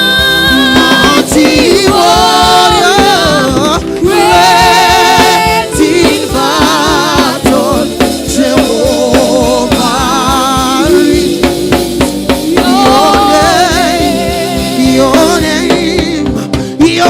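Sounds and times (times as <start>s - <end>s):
singers holding a vibrato note: 0.0s - 15.8s
drum kit: 0.0s - 17.0s
gospel band playing: 0.0s - 17.0s.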